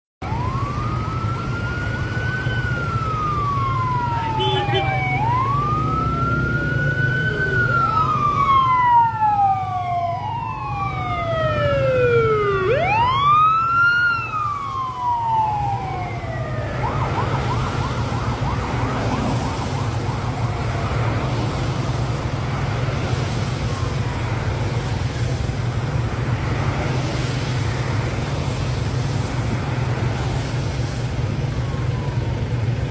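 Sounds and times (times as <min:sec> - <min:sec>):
engine hum: 0:00.2 - 0:32.9
road noise: 0:00.2 - 0:32.9
siren wailing: 0:00.2 - 0:32.9.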